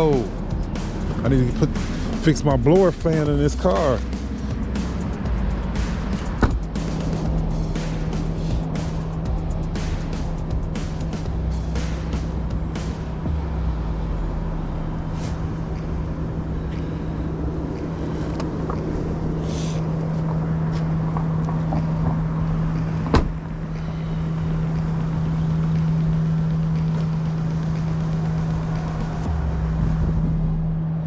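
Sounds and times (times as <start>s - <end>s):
car cabin drone: 0.0s - 31.0s.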